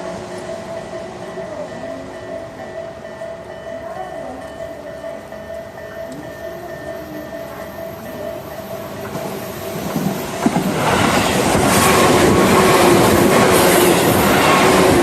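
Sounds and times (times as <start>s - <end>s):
electric train passing: 0.0s - 15.0s
wheels clacking over rail joints: 0.0s - 15.0s.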